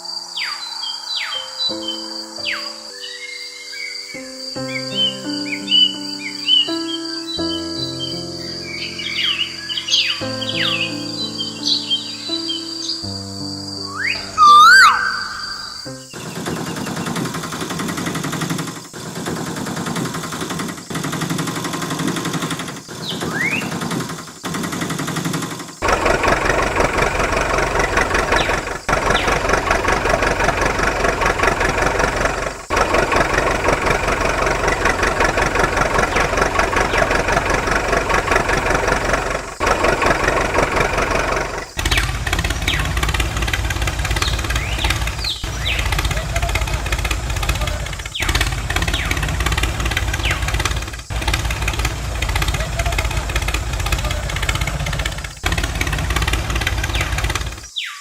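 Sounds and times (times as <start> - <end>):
engine chugging: 8.6 - 13.0, 13.9 - 57.7.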